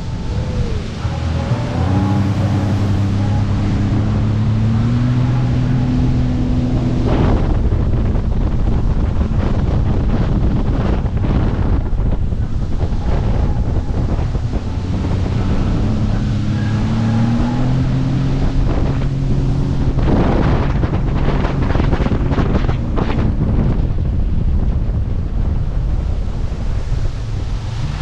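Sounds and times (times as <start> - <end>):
jet ski engine running: 0.0 - 28.0
water rushing and splashing: 0.0 - 28.0
wind buffeting microphone: 0.0 - 28.0.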